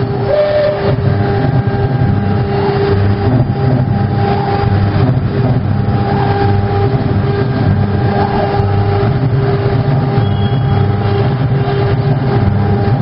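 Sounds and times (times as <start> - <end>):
low mechanical hum: 0.0 - 13.0
router spindle steady tone: 0.0 - 13.0.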